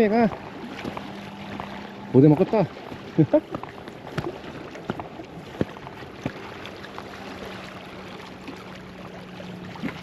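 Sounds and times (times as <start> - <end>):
sea water sloshing against rocks: 0.0 - 10.0
steady low hum: 0.0 - 10.0.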